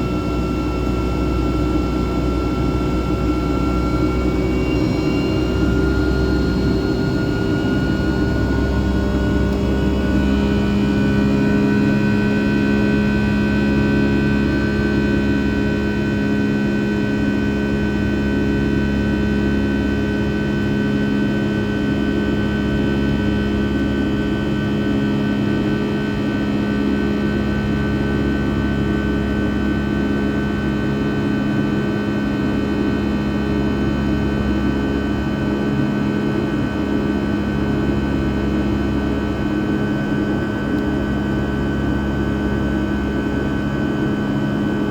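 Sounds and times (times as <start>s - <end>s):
jet engine drone in cabin: 0.0s - 44.9s.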